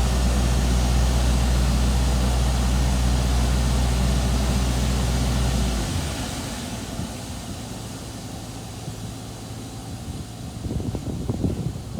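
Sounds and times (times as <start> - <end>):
diesel engine deep drone: 0.0 - 11.9.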